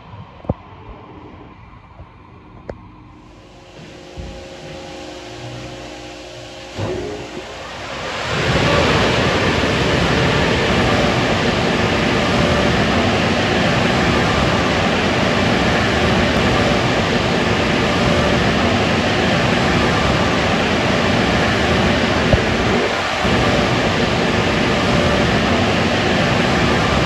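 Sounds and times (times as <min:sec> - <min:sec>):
dryer blowers roaring: 0:03.2 - 0:27.0.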